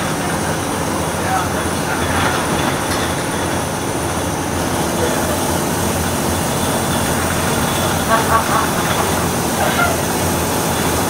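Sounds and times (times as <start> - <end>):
bus engine running: 0.0 - 11.0
road noise: 0.0 - 11.0.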